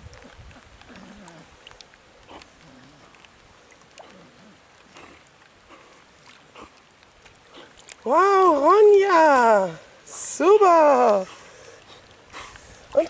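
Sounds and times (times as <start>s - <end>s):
rain pattering on water: 0.0s - 13.0s
small splashes and drips: 0.0s - 13.0s.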